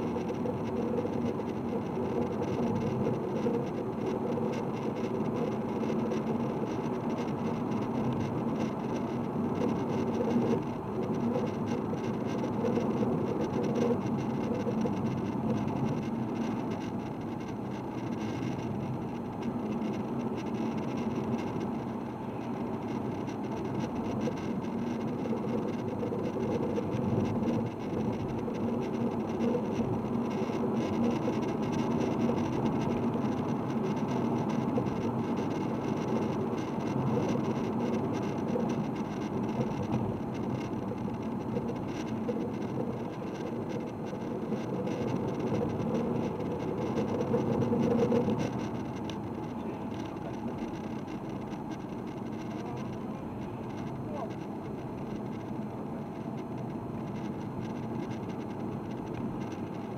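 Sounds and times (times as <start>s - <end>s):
diesel car engine running: 0.0s - 59.9s.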